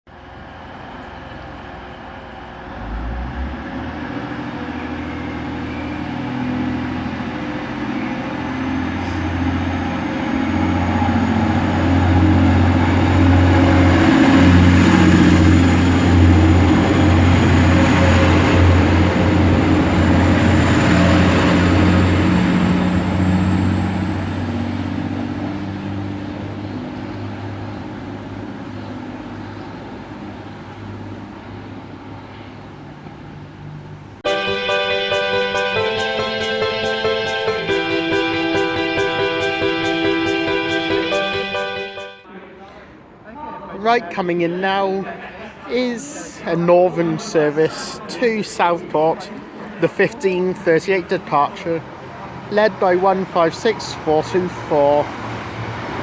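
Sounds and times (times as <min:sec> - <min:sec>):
diesel train engines running hard: 0:00.1 - 0:42.2, 0:45.4 - 0:56.0.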